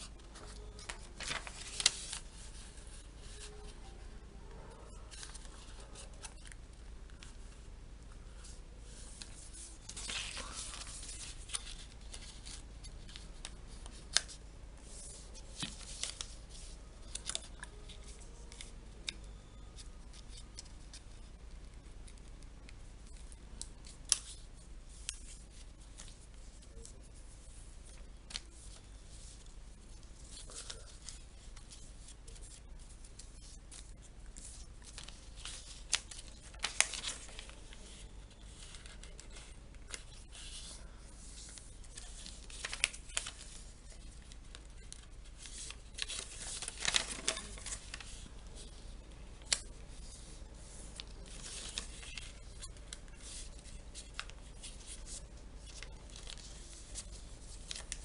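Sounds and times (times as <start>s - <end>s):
paper rustling: 0.0s - 4.1s, 4.8s - 7.6s, 8.2s - 19.2s, 23.0s - 58.0s.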